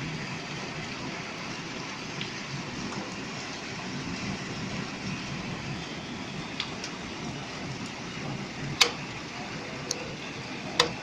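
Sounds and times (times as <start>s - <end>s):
roar of rain and hail: 0.0s - 11.0s.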